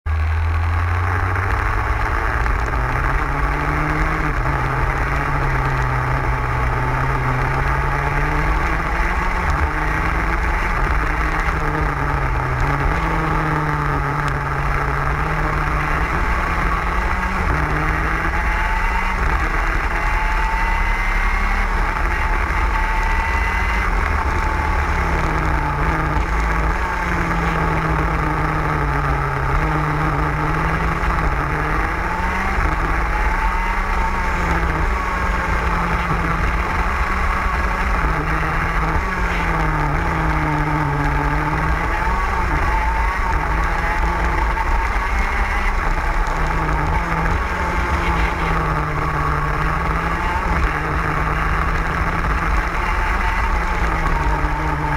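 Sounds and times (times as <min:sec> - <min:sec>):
kart engine at racing revs: 0:00.0 - 0:54.9.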